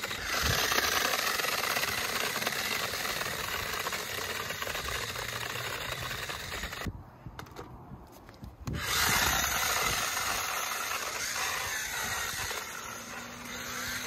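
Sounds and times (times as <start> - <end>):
toy motorcycle motor rasping: 0.0 - 6.9, 8.7 - 14.0.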